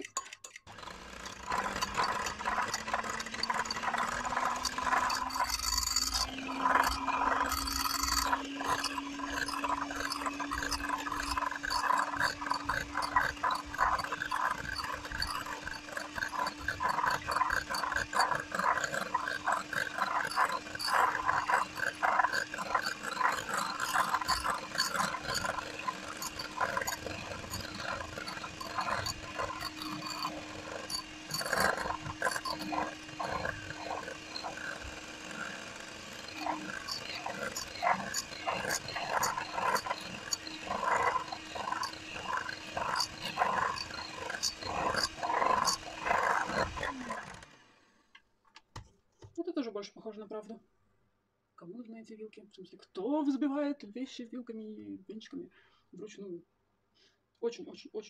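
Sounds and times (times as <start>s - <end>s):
whisk rattling against bowl: 0.0s - 47.4s
electric whisk motor hum: 0.6s - 48.0s.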